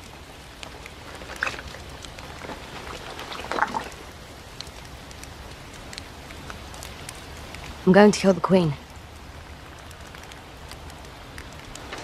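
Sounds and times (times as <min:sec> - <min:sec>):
light ticks and crackles: 0:00.0 - 0:12.0.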